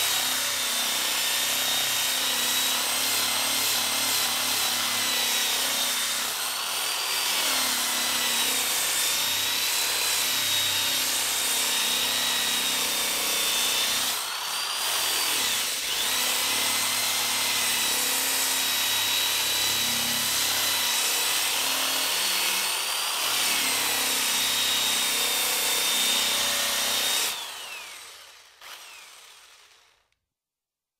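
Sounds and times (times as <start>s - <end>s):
electric drill motor whine: 0.0s - 30.1s.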